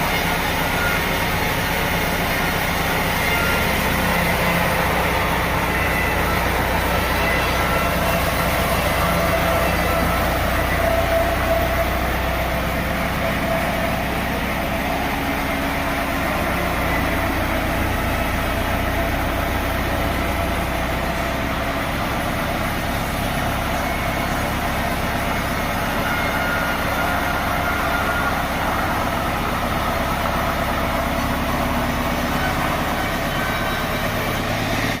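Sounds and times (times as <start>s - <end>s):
sawmill machinery humming: 0.0s - 35.0s.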